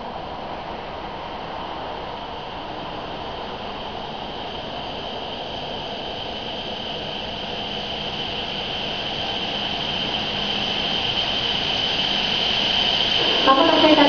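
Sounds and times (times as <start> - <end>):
train rushing with high whine: 0.0 - 14.0.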